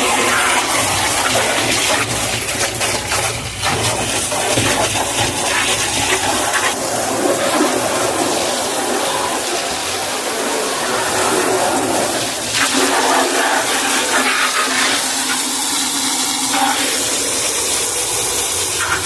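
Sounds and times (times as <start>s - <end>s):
water rushing and splashing: 0.0s - 19.0s.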